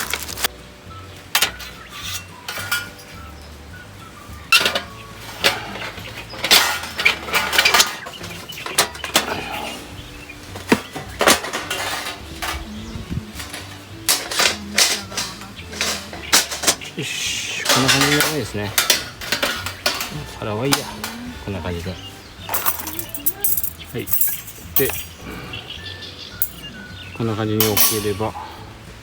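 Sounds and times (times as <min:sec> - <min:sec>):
metal plates clinking: 0:00.0 - 0:29.0.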